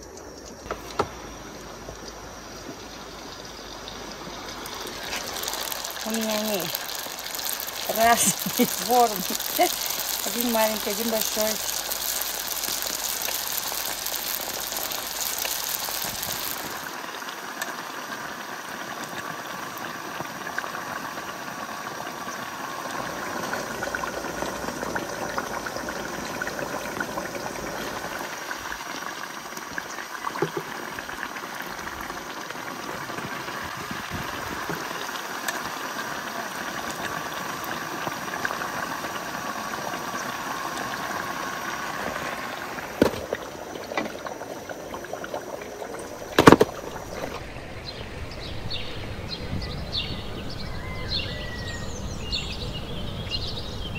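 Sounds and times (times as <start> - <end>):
dough deep-frying in oil: 0.0 - 47.4.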